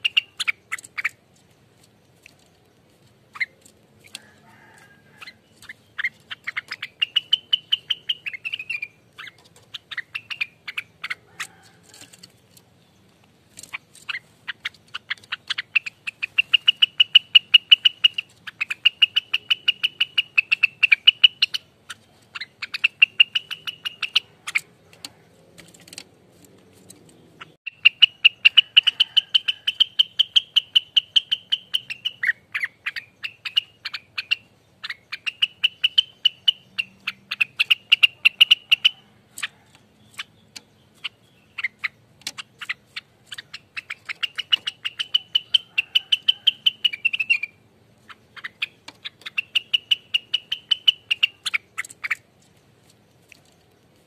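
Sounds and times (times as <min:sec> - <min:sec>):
songbird trilling song: 0:00.0 - 0:54.0.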